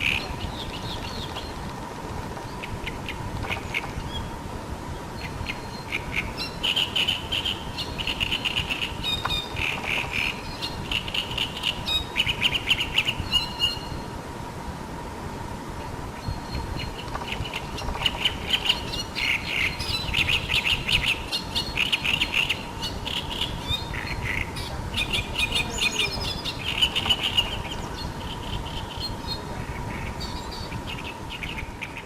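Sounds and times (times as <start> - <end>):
birds chirping: 0.0 - 14.2, 15.8 - 32.0
faint steady hum: 0.0 - 32.0.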